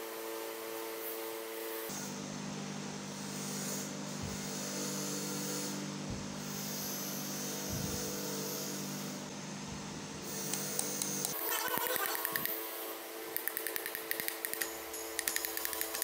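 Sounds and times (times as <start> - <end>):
low droning hum: 1.9 - 16.0.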